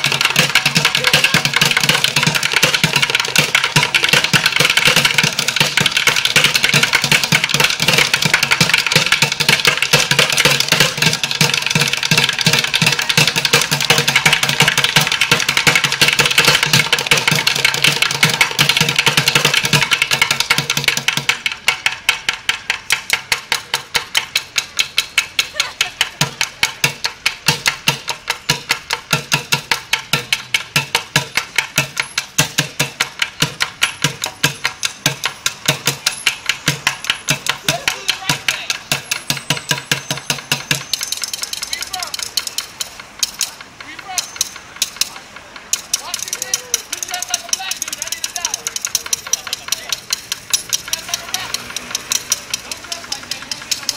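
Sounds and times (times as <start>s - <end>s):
drumming on plastic buckets: 0.0s - 53.9s.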